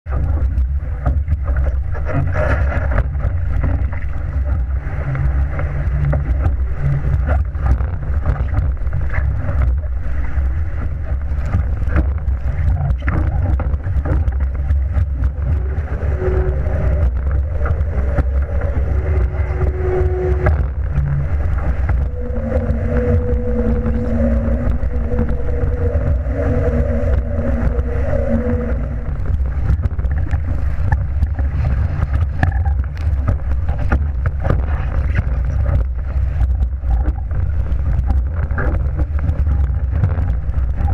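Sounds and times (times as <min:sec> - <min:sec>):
water rushing along boat hull: 0:00.0 - 0:40.9
wind rumble on microphone: 0:00.0 - 0:40.9
faint humming tone: 0:00.1 - 0:40.9.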